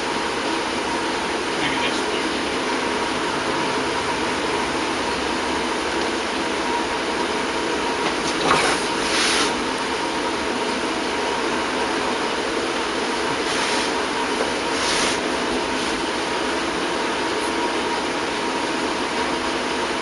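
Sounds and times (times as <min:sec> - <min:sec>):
fan rushing hum: 0:00.0 - 0:20.0.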